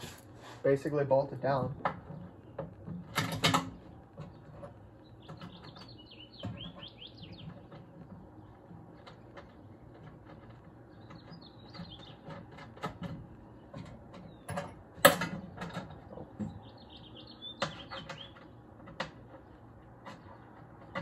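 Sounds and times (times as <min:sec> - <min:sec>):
birds chirping: 0:00.8 - 0:21.0.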